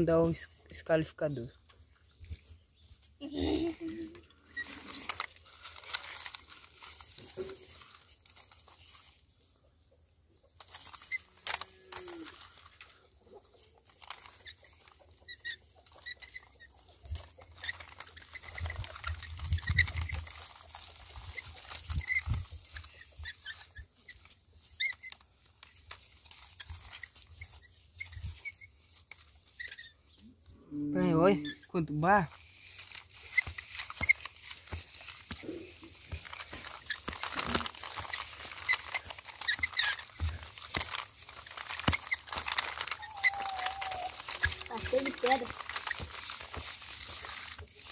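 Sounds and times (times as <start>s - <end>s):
mud scraping and crackling: 0.0s - 9.7s, 10.5s - 47.9s.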